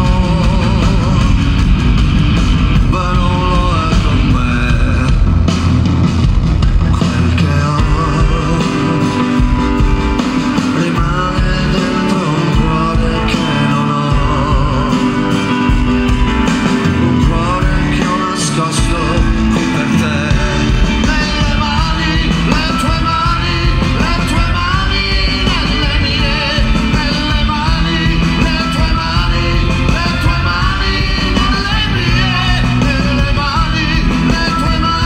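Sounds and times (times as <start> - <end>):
person singing: 0.0 - 5.8, 6.5 - 35.0
drums: 0.0 - 35.0
electric guitar: 0.0 - 35.0.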